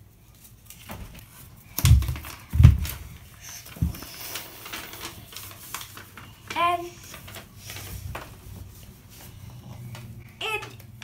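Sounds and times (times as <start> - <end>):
paper and cardboard rustling: 0.0 - 11.0.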